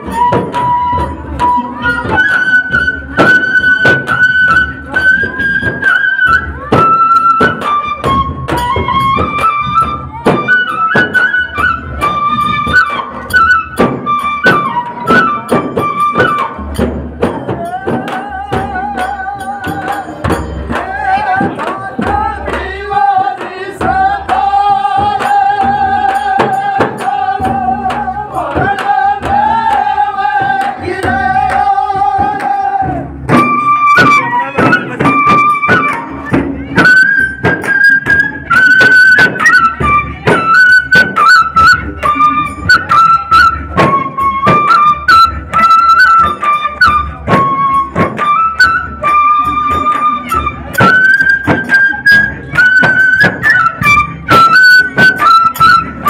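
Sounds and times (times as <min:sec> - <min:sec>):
flute melody over loudspeakers: 0:00.0 - 0:56.0
frame drums beaten: 0:00.0 - 0:56.0.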